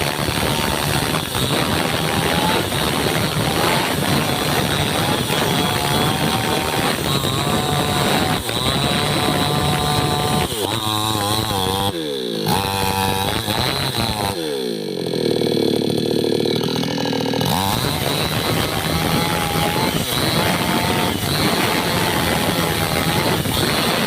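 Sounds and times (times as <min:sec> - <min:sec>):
chainsaw running: 0:00.0 - 0:24.0.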